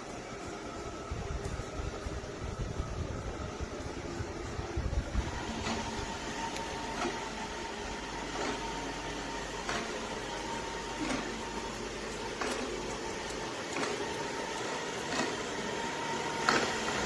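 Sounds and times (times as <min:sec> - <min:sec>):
robot vacuum motor humming: 0:00.0 - 0:17.0.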